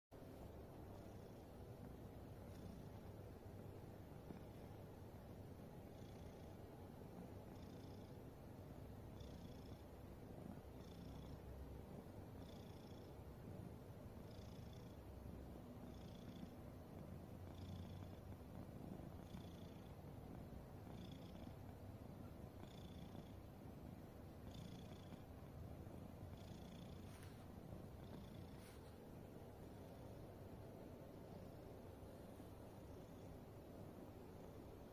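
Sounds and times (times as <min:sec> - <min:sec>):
cat snoring: 0:00.8 - 0:34.9.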